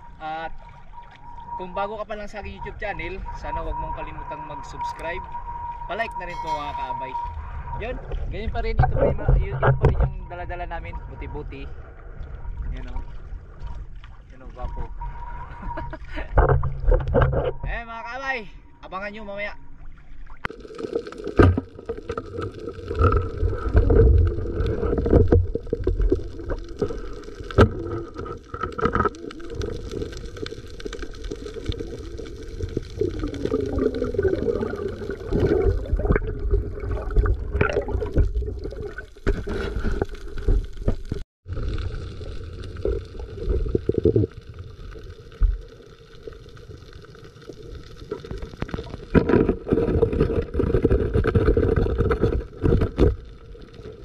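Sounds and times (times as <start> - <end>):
underwater water rushing: 0.0 - 54.0.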